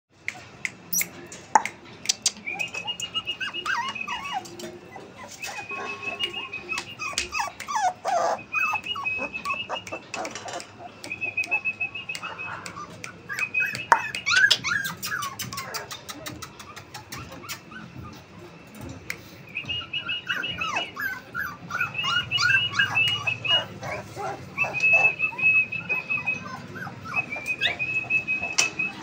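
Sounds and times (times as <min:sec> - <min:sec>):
puppy whining and yipping: 0:02.4 - 0:19.0, 0:19.6 - 0:29.0.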